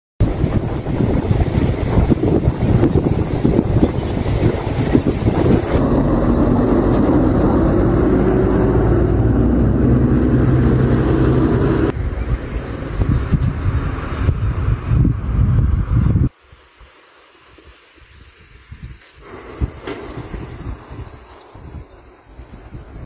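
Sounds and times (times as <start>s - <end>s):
wind buffeting microphone: 0.2s - 16.3s, 18.1s - 23.0s.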